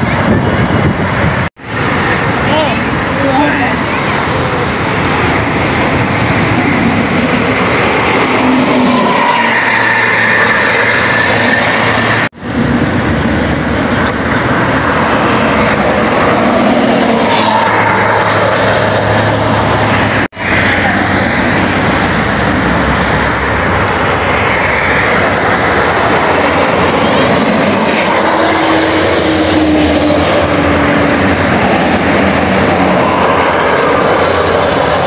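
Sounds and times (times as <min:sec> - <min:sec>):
diesel engines passing: 0:00.0 - 0:35.0.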